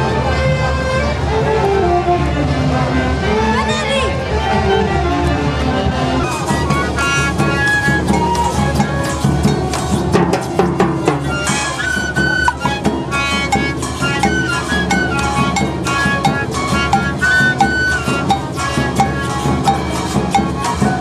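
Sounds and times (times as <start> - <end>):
flutes playing a melody: 0.0 - 10.2, 10.8 - 21.0.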